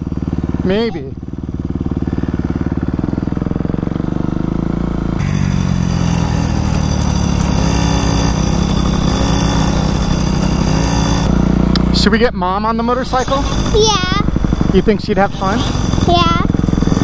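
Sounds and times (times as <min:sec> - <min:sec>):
dirt bike engine running: 0:00.0 - 0:17.0
small two-stroke engine buzzing: 0:00.0 - 0:17.0.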